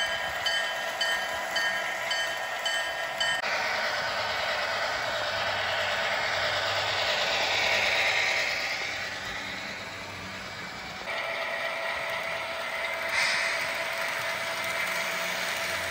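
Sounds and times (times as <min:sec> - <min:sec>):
model train motor whirring: 0:00.0 - 0:15.9.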